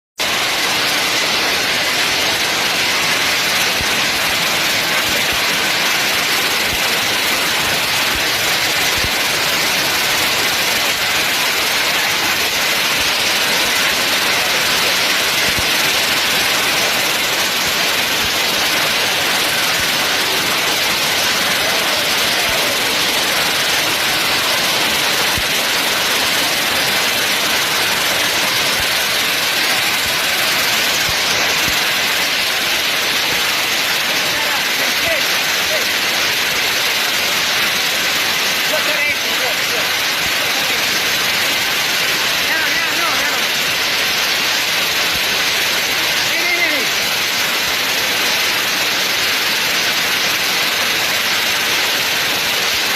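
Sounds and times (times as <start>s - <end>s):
hail and wind-driven rain: 0.2s - 52.9s.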